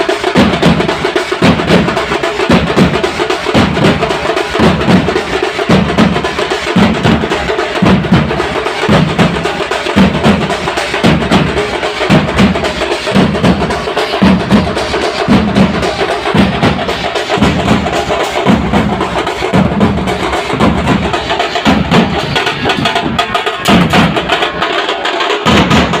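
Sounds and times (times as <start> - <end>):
quick sharp drum strokes: 0.0 - 26.0.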